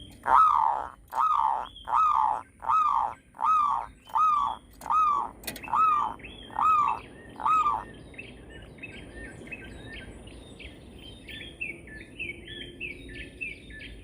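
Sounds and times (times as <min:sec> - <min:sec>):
bird high chirps: 0:00.0 - 0:14.0.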